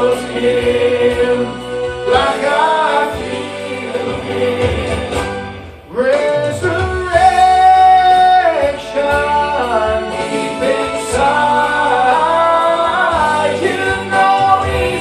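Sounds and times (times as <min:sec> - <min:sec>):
instrumental accompaniment: 0:00.0 - 0:15.0
voices singing held notes: 0:00.0 - 0:15.0.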